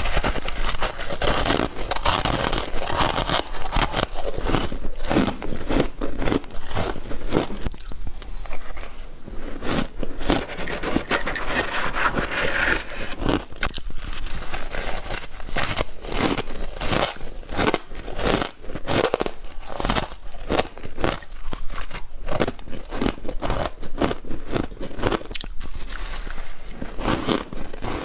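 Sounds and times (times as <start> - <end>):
frost being chewed: 0.0 - 28.0.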